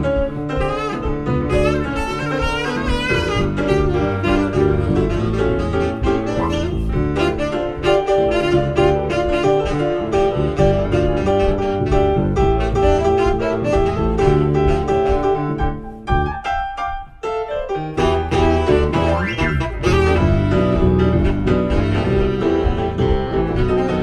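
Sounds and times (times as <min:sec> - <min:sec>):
saxophone: 0:00.0 - 0:16.3, 0:18.0 - 0:24.0
bass line: 0:00.0 - 0:16.5, 0:18.0 - 0:24.0
steady beat: 0:00.0 - 0:24.0.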